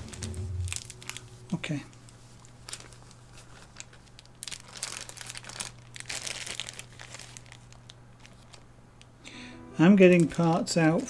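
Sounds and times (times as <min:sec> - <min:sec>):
plastic bag crinkling: 0:00.0 - 0:08.8, 0:09.9 - 0:11.0
low steady hum: 0:00.0 - 0:11.0.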